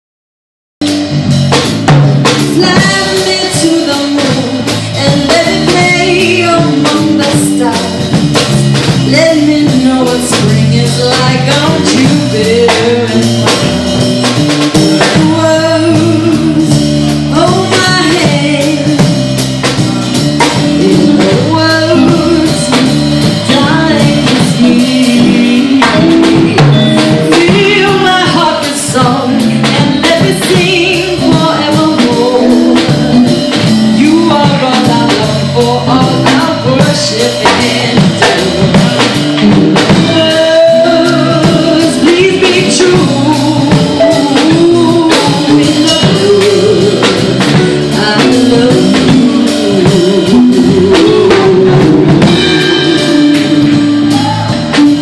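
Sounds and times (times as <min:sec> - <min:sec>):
drum kit steady beat: 0:00.8 - 0:55.0
guitar: 0:00.8 - 0:55.0
woman singing into a microphone: 0:02.2 - 0:55.0.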